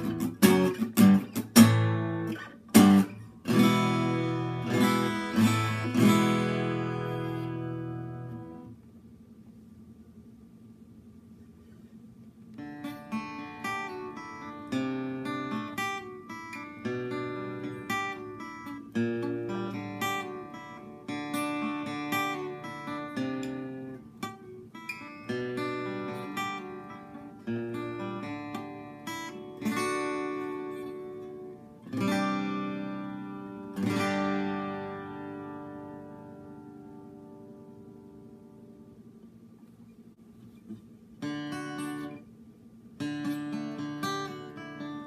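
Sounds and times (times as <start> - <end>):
acoustic guitar playing: 0.0 - 8.9, 12.4 - 45.0.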